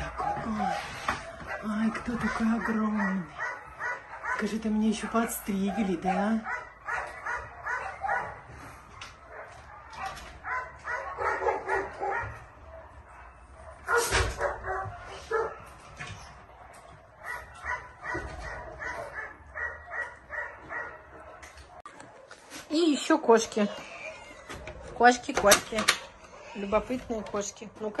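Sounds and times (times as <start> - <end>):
dogs barking: 0.0 - 22.5, 24.2 - 28.0.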